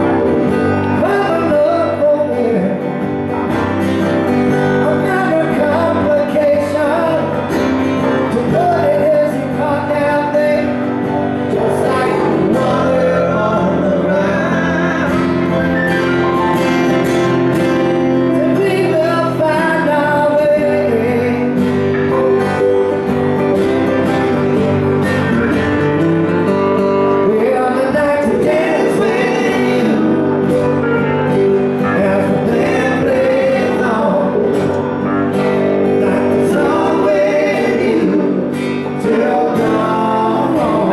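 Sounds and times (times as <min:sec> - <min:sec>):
man singing: 0:00.0 - 0:03.4, 0:04.2 - 0:16.4, 0:18.2 - 0:22.4, 0:27.0 - 0:40.9
acoustic guitars strumming: 0:00.0 - 0:40.9.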